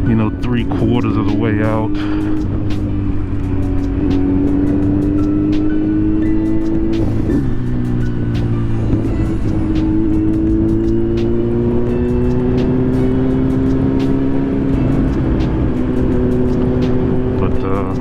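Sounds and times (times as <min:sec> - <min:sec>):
low wind rumble: 0:00.0 - 0:18.0
motorcycle engine cruising: 0:00.0 - 0:18.0.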